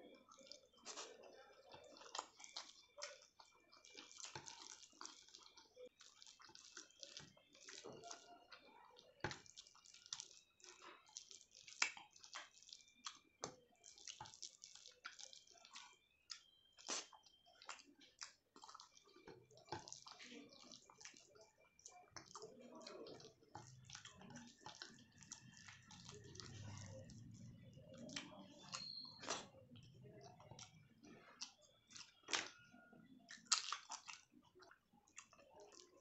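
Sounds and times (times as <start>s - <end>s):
soft chewing with mouth clicks: 0.0s - 36.0s.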